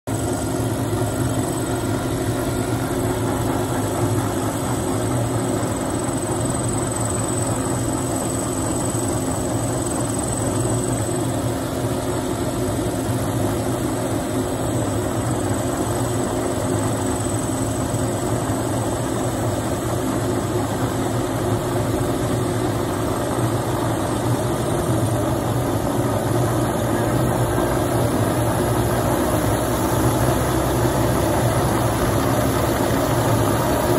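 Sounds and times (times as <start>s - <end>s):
helicopter engine idling: 0.1s - 33.9s.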